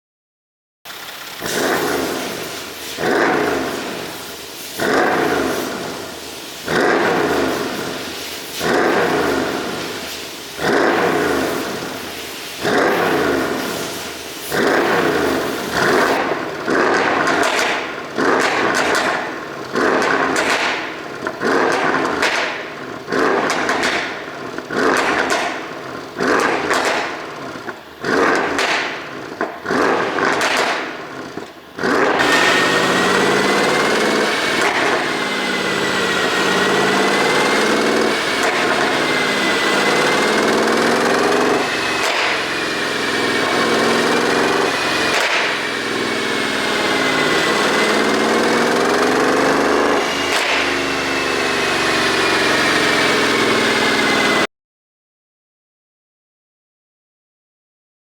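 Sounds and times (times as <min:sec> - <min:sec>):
exhaust pops and crackles: 0:00.9 - 0:53.0
car engine revving: 0:00.9 - 0:54.5.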